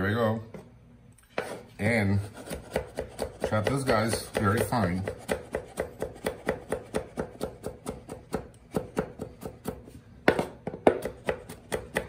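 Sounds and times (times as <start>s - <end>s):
knife chopping on wooden board: 2.2s - 12.0s.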